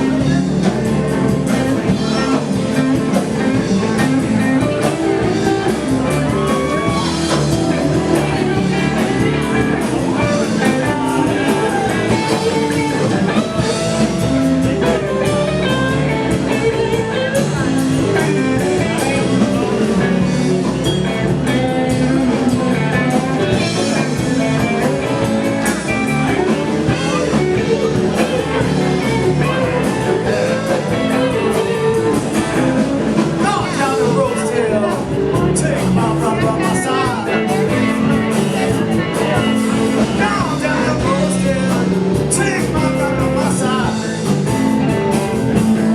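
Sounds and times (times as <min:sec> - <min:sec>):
blues band playing: 0:00.0 - 0:45.9
electric guitar: 0:00.0 - 0:45.9
person singing: 0:00.0 - 0:45.9
steady drum beat: 0:00.0 - 0:45.9.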